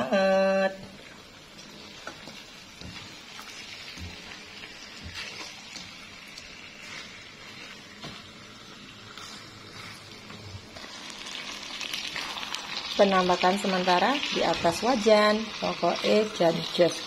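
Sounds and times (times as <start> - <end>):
fish sizzling in a wok: 0.5 - 17.0.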